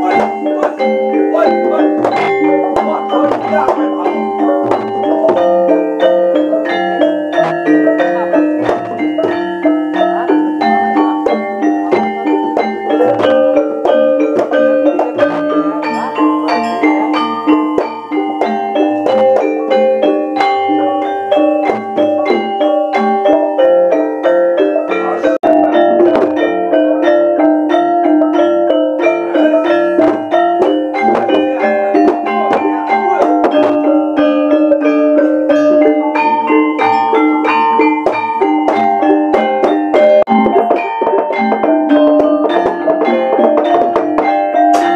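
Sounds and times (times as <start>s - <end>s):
hand drum strokes: 0.0s - 44.9s
metallophones and gongs struck: 0.0s - 44.9s.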